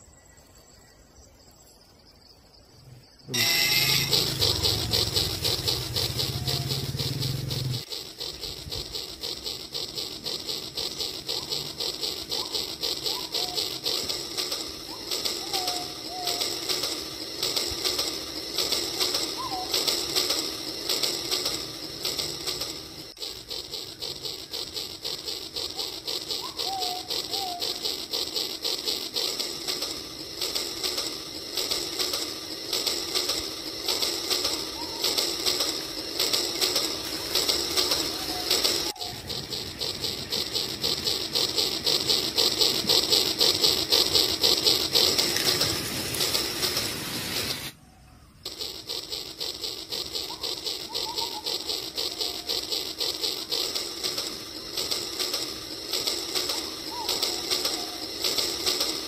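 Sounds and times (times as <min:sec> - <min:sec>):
short whistled calls: 0:03.3 - 0:47.7, 0:50.0 - 0:59.0
toy train running on track: 0:03.3 - 0:59.0.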